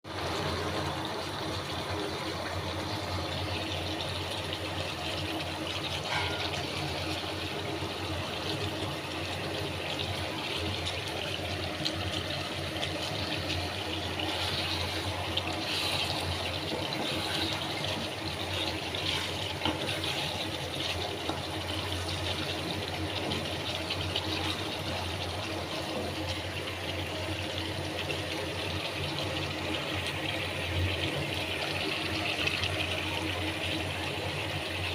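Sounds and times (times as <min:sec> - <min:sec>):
chicken sizzling in oil: 0:00.1 - 0:34.9.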